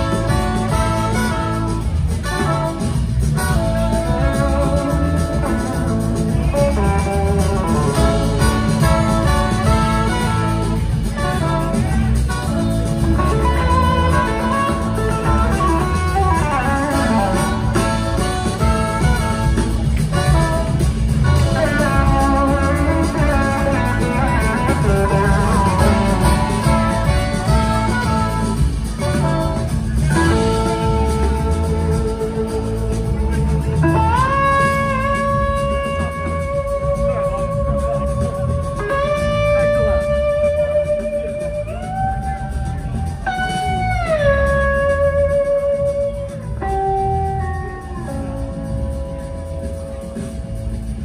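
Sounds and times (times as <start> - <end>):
lead guitar melody: 0.0 - 51.0
live blues-rock band: 0.0 - 51.0.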